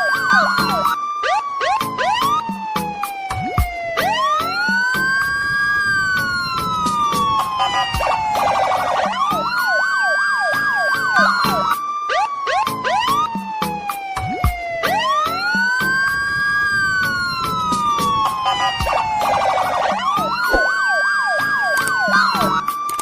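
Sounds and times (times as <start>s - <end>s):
siren-like wailing tones: 0.0s - 22.9s.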